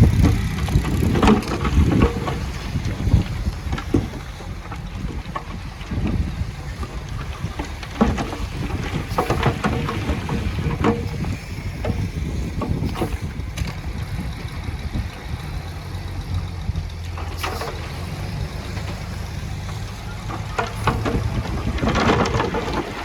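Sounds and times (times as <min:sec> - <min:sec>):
clanks of metal and stone: 0:00.0 - 0:13.8, 0:17.1 - 0:23.0
heavy machinery diesel engine rumbling: 0:00.0 - 0:23.0.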